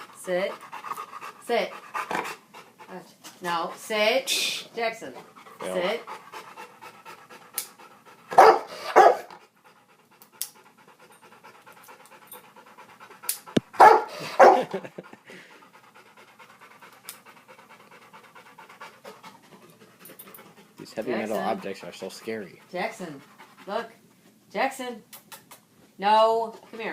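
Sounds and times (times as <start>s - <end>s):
dog panting: 0.0s - 24.4s, 26.2s - 26.9s.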